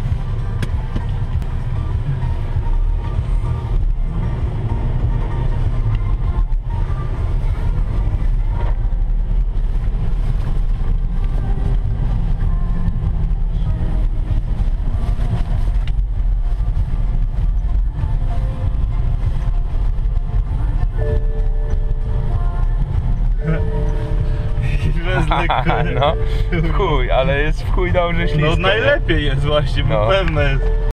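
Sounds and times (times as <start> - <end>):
car engine rumbling: 0.0 - 30.9.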